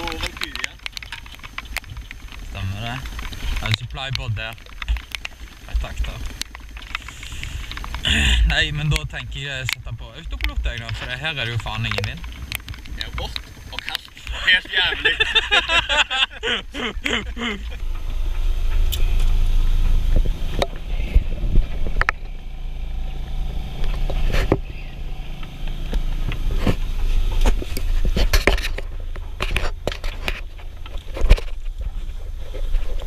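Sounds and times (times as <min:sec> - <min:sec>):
boat engine rumbling: 0:00.0 - 0:33.0.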